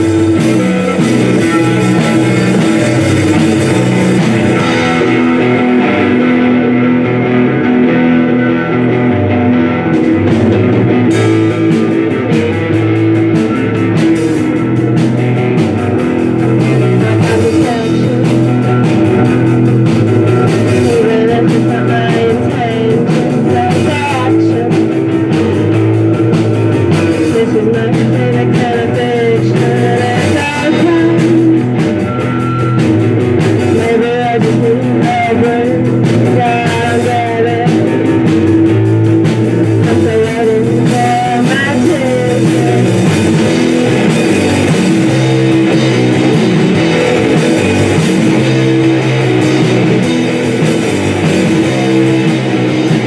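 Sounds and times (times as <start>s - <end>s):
person singing: 0.0s - 25.8s, 26.8s - 53.0s
live rock band playing: 0.0s - 53.0s.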